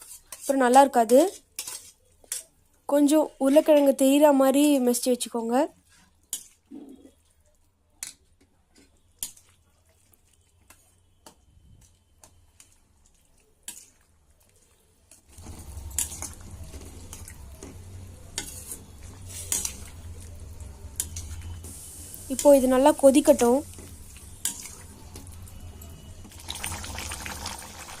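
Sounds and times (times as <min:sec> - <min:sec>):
metal spoon stirring in pan: 0:00.0 - 0:03.8, 0:05.8 - 0:07.4, 0:08.0 - 0:28.0
food bubbling and sizzling: 0:00.0 - 0:28.0.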